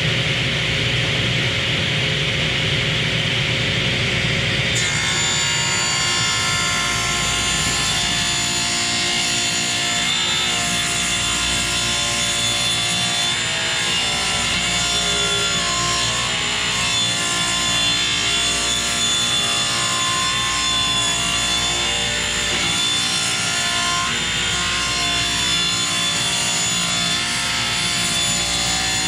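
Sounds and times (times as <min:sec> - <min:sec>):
table saw cutting wood: 0:04.7 - 0:29.0.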